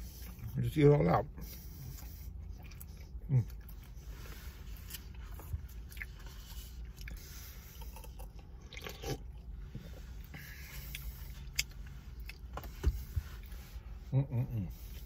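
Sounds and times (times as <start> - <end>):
person chewing: 1.4 - 13.6.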